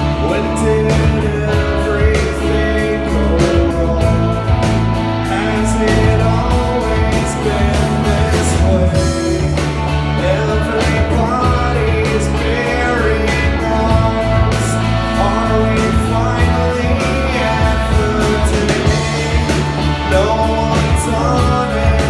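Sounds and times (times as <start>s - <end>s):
live rock band playing: 0.0s - 22.0s
person singing: 0.0s - 22.0s
steady drumbeat: 0.0s - 22.0s.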